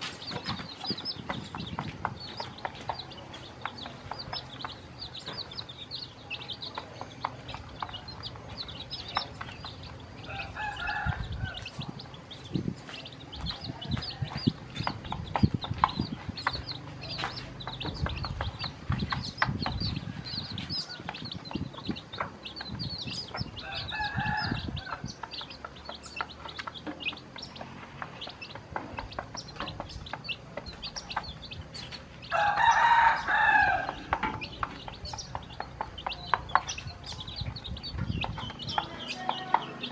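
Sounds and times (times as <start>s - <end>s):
beaks pecking at plate: 0.0s - 39.9s
chicks peeping: 0.0s - 39.9s
hen clucking: 0.0s - 39.9s.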